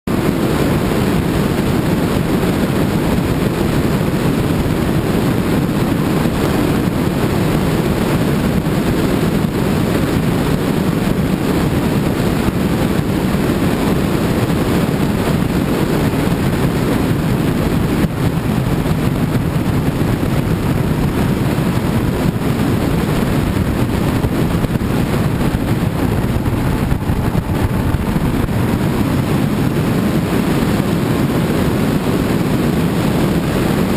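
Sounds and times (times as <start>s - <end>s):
motorcycle engine: 0.1s - 33.9s
wind on microphone: 0.1s - 33.9s.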